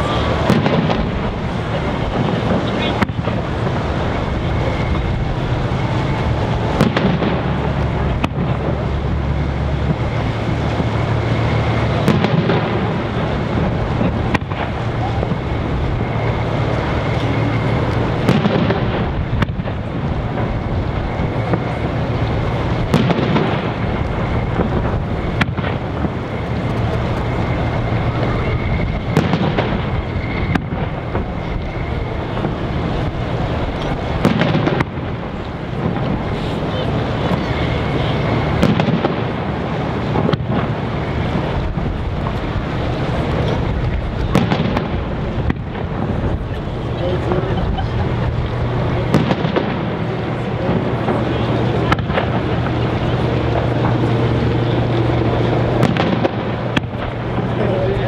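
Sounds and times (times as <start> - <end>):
steady background noise: 0.0 - 58.0
firework shells bursting: 0.2 - 36.5, 38.4 - 46.7, 48.1 - 54.0, 54.8 - 57.6.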